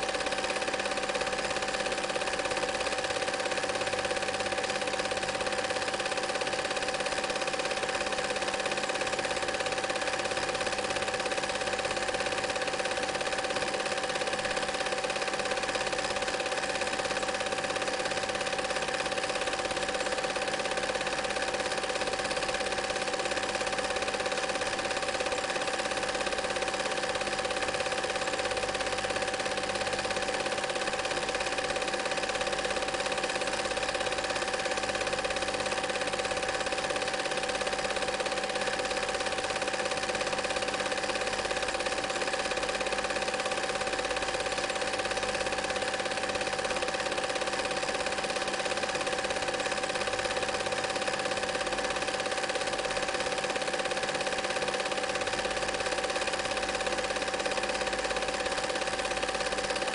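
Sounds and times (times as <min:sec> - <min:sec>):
film projector whirring: 0:00.0 - 0:59.9.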